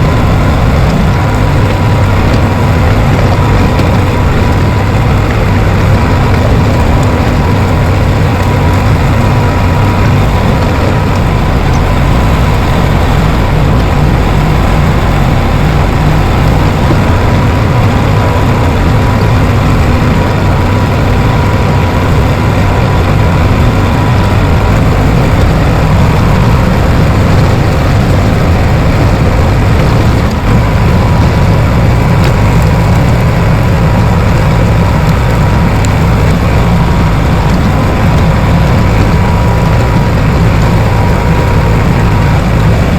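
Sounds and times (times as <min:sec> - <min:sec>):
bulldozer diesel engine droning: 0:00.0 - 0:42.9.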